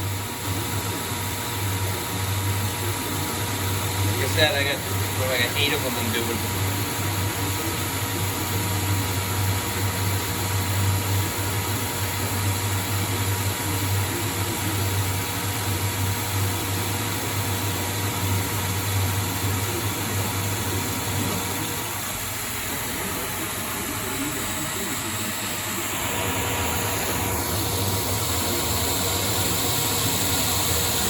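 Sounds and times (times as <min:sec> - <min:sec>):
lathe machine hum: 0:00.0 - 0:31.0.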